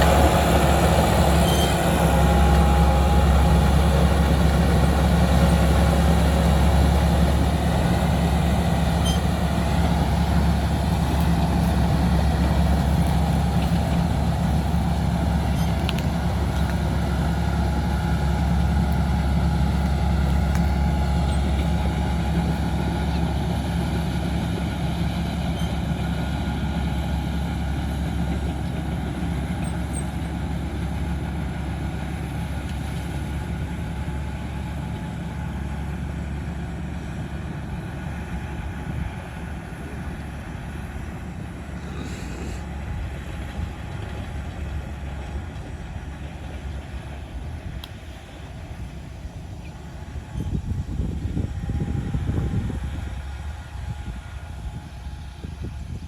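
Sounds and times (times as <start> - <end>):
diesel engine running with deep hum: 0.0 - 56.0.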